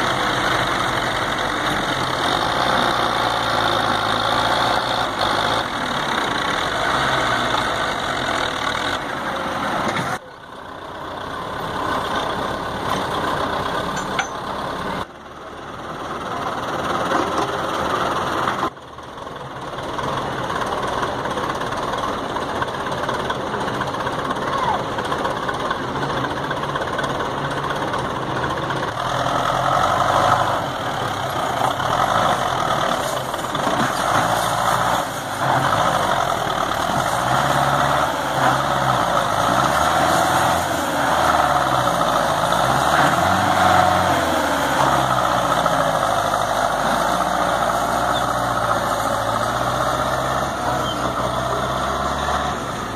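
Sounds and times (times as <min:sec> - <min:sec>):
tractor diesel engine under load: 0:00.0 - 0:52.9.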